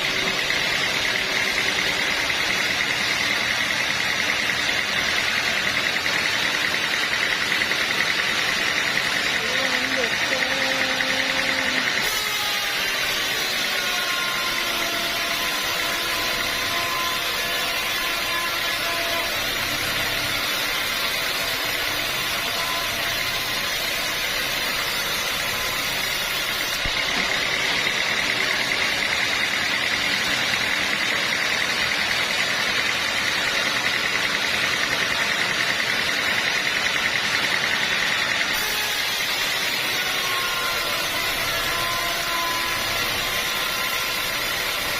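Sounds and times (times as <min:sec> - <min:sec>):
sawmill blade sawing wood: 0:00.0 - 0:44.9.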